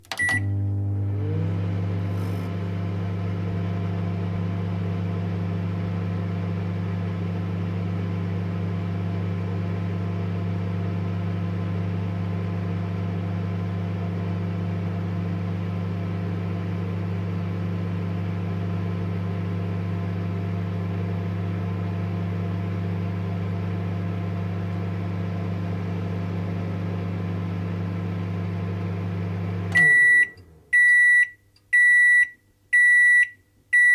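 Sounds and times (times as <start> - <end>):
microwave oven humming: 0.0 - 31.2.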